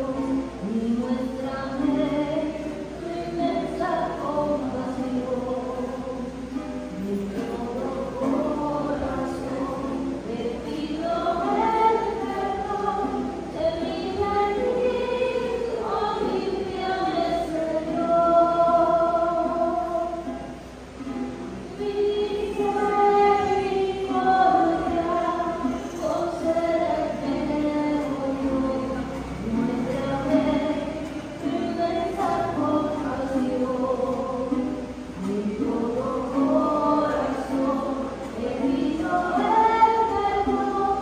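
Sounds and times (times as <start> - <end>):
church choir singing a hymn: 0.0 - 20.7, 21.6 - 41.0.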